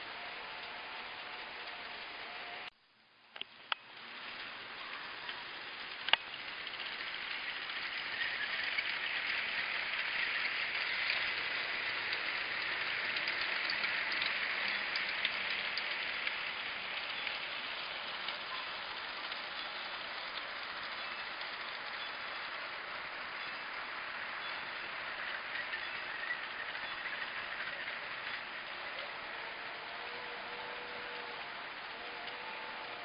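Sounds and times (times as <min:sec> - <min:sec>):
small clicks of train wheels: 0:00.0 - 0:02.7, 0:03.3 - 0:33.0
toy train whirring on track: 0:00.0 - 0:02.7, 0:03.4 - 0:33.0.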